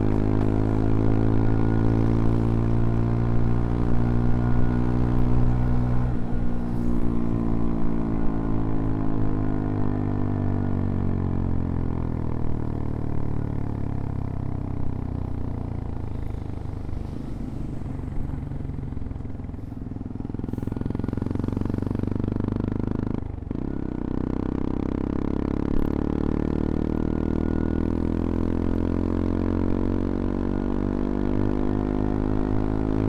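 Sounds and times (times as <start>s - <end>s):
motorcycle engine: 0.0s - 33.0s.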